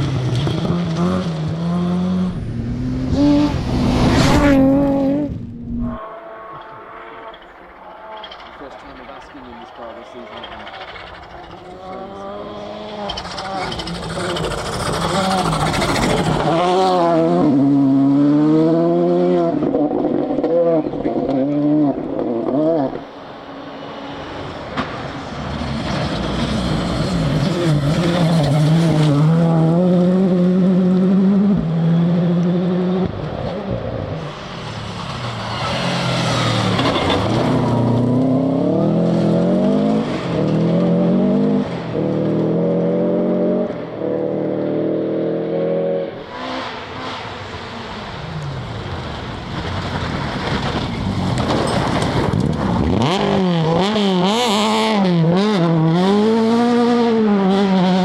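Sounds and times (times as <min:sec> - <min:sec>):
cars passing by: 0:00.0 - 0:58.0
rally car engines revving: 0:00.0 - 0:58.0.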